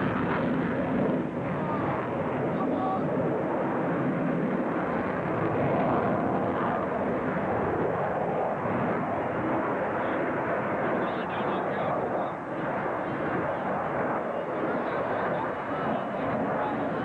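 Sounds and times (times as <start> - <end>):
jet fighter flying: 0.0 - 17.0.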